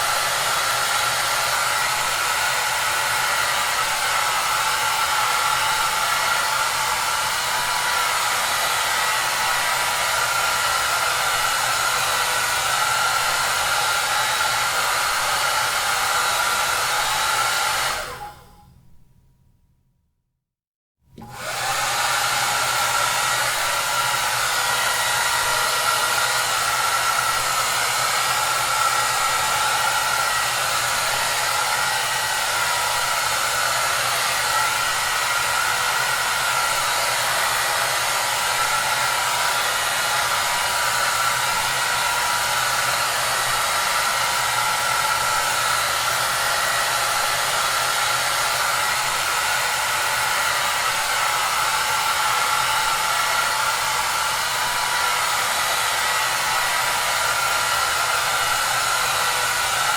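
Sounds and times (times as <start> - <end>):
hair dryer running: 0.0 - 18.6, 21.2 - 59.9.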